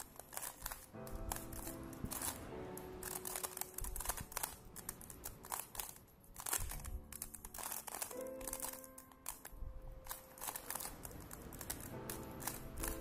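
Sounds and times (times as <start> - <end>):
background music with held notes: 0.0 - 13.0
puzzle cube clicking and rattling: 0.0 - 13.0.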